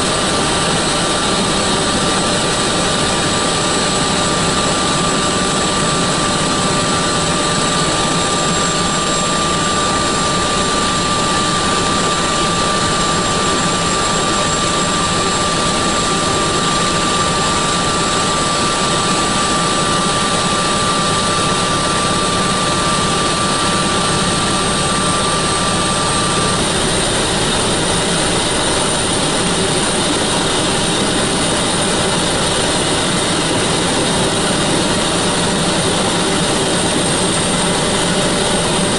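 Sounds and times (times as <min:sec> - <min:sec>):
helicopter turbine and rotor roar: 0:00.0 - 0:38.9.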